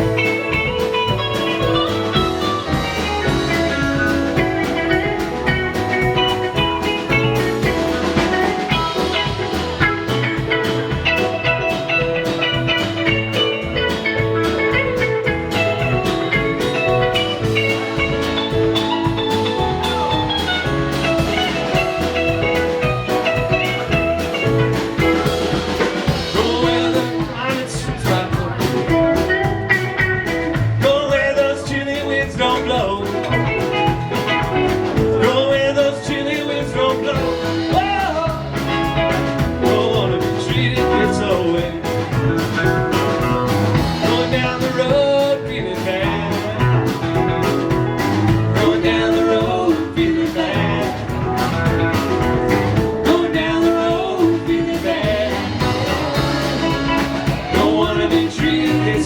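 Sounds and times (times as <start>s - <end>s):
bass guitar: 0.0s - 59.0s
drum kit: 0.0s - 59.0s
lead electric guitar: 0.0s - 59.0s.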